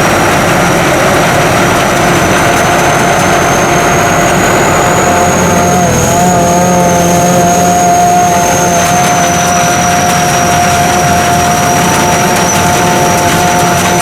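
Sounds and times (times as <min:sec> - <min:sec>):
combine harvester running: 0:00.0 - 0:14.0
steady machine whine: 0:00.0 - 0:14.0.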